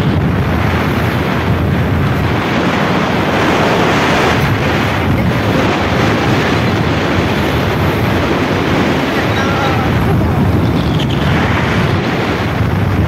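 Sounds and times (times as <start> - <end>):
motorbike engine and road noise: 0.0 - 13.0
wind rushing over microphone: 0.0 - 13.0.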